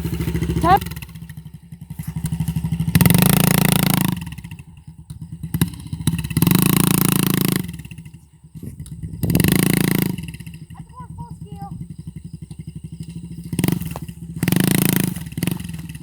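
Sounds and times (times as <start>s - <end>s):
dirt bike engine chugging and revving: 0.0s - 16.0s.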